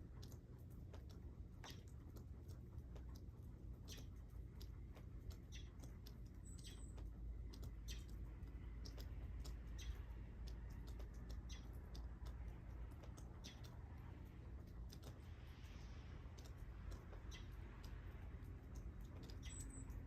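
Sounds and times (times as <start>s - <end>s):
faint ticks and clicks: 0.0s - 20.0s
low steady rumble: 0.0s - 20.0s.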